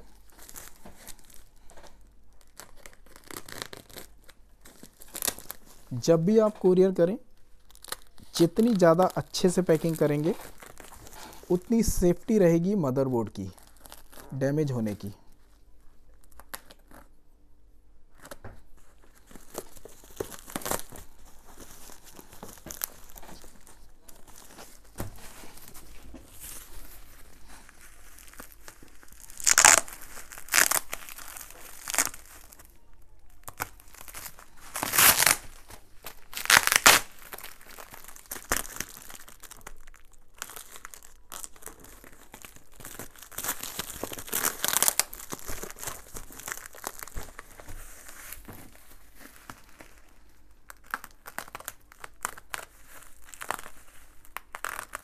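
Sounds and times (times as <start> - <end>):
plastic film tearing: 0.0 - 15.2, 16.1 - 17.2, 18.1 - 55.0
bubble wrap crinkling: 0.0 - 55.0.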